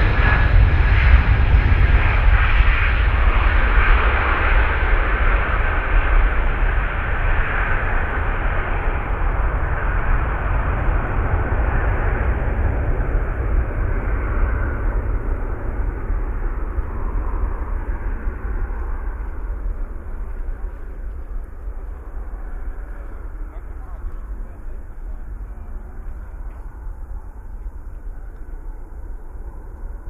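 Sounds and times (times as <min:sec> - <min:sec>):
jet aircraft rumble and hiss: 0:00.0 - 0:30.0.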